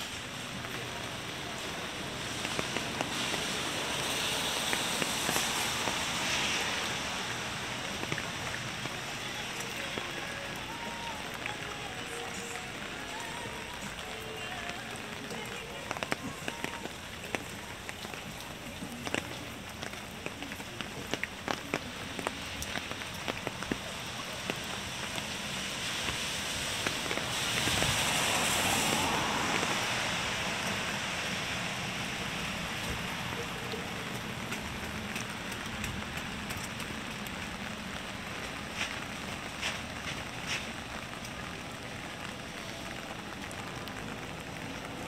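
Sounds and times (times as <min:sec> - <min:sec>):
rain on wet pavement: 0:00.0 - 0:45.0
raindrop taps: 0:00.2 - 0:29.8, 0:32.2 - 0:45.0.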